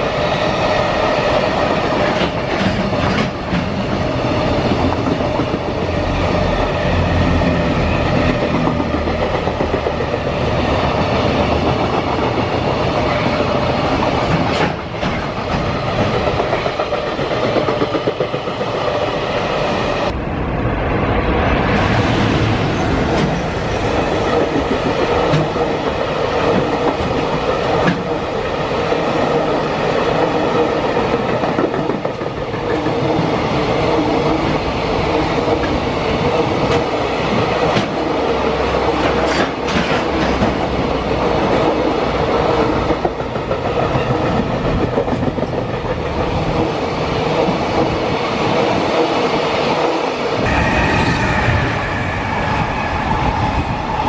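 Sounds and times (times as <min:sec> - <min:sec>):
freight train running on rails: 0:00.0 - 0:54.0.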